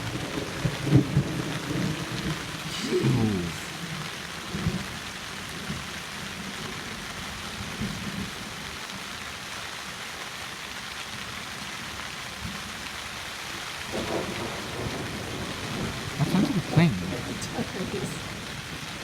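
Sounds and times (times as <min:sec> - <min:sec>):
heavy rain hissing: 0:00.1 - 0:10.4, 0:13.8 - 0:19.0.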